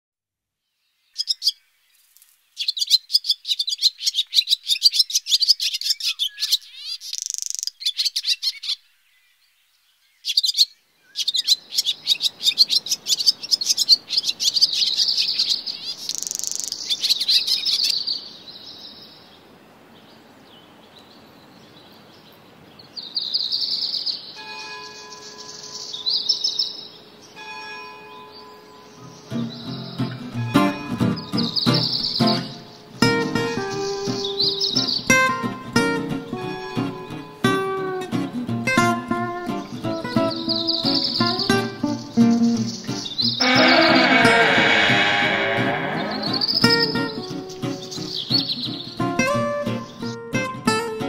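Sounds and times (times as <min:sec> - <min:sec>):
songbirds chirping and trilling: 0:00.6 - 0:50.2.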